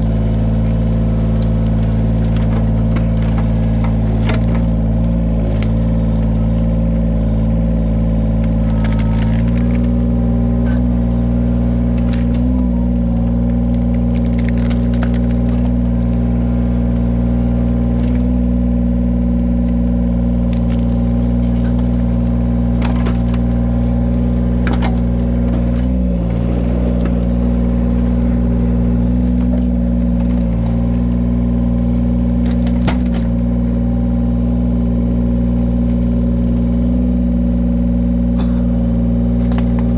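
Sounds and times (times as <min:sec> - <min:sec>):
log splitter engine running: 0:00.0 - 0:39.9
logs cracking and splitting: 0:00.0 - 0:39.9.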